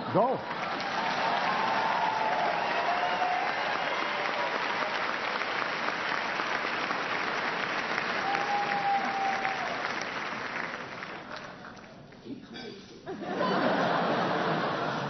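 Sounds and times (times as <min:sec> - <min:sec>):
audience applauding: 0:00.1 - 0:12.2.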